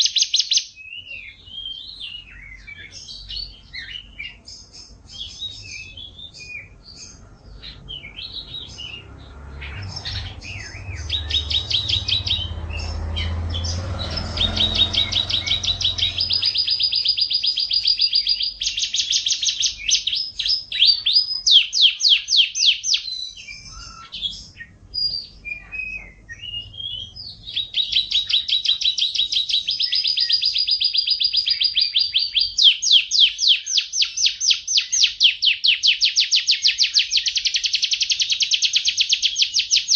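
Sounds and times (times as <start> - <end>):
canary trilling song: 0.0 - 39.9
canary twittering: 0.0 - 39.9.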